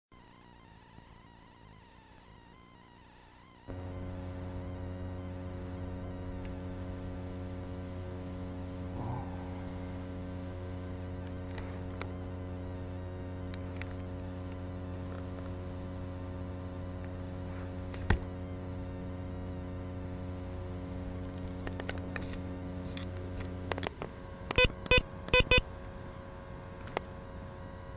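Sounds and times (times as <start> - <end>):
steady hum: 0.1 - 27.9.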